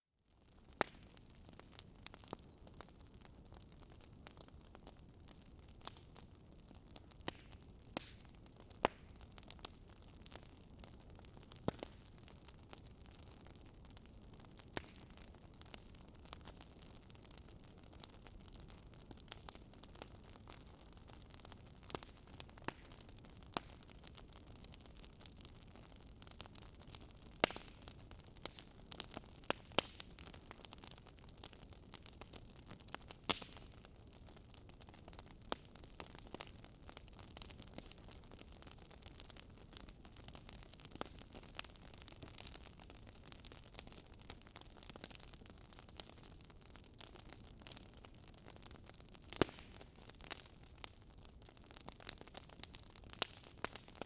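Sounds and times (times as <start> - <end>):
wood fire crackling: 0.4 - 54.0.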